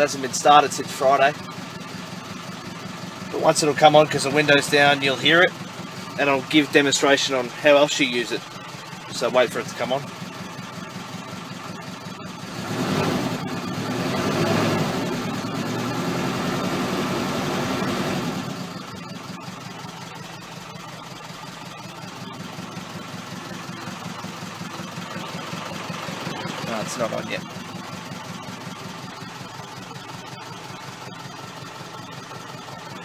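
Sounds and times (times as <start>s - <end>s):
truck diesel engine idling: 0.0s - 33.0s.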